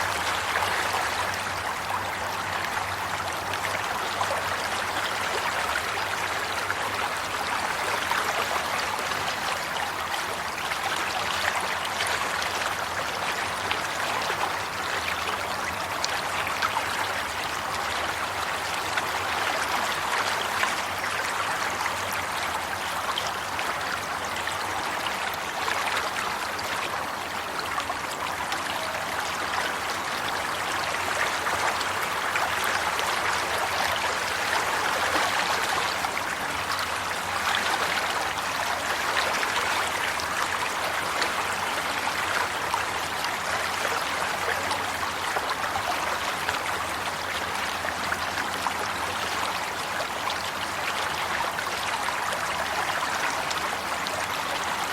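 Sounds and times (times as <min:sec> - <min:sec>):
water flowing and trickling: 0:00.0 - 0:54.9.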